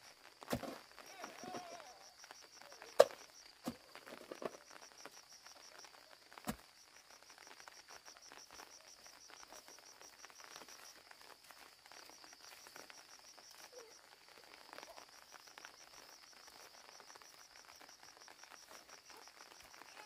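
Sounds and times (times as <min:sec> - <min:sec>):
high-pitched insect trill: 0:00.8 - 0:20.0.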